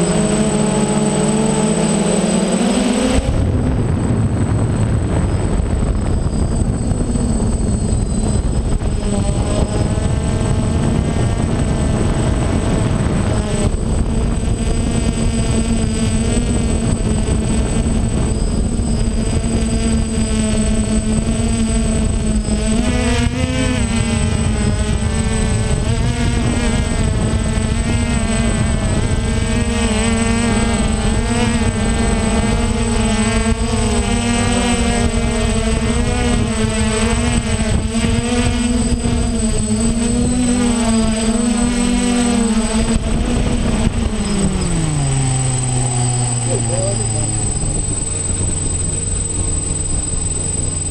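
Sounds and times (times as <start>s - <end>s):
drone propellers buzzing: 0.0s - 50.9s.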